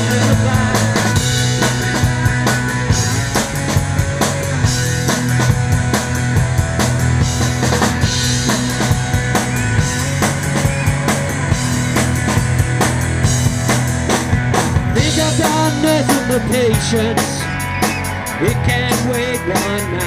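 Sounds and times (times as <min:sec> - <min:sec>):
drum kit beat: 0:00.0 - 0:20.0
electric guitar: 0:00.0 - 0:20.0
sustained bass: 0:00.0 - 0:20.0.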